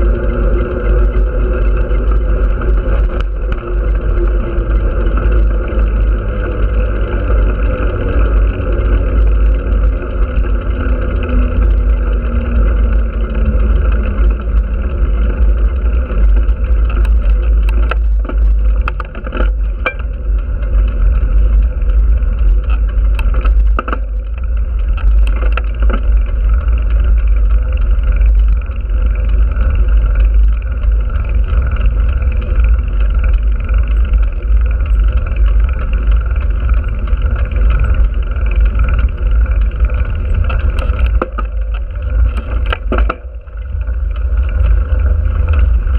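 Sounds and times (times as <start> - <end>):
scattered clicks: 0.0 - 45.9.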